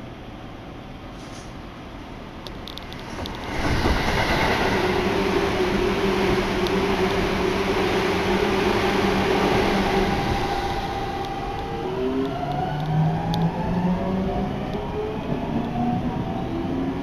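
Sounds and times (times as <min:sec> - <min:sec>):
train wheels rumbling on rail: 0:01.1 - 0:17.0.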